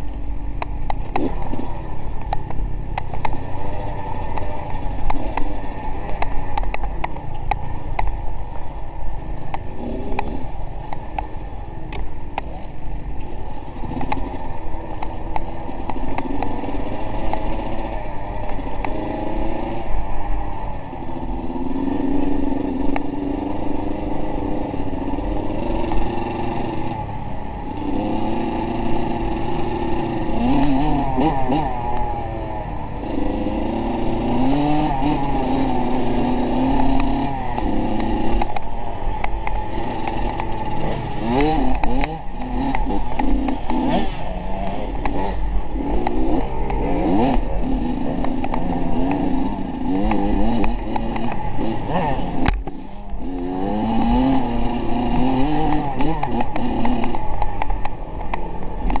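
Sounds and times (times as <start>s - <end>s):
vehicle engine revving: 9.4s - 59.0s.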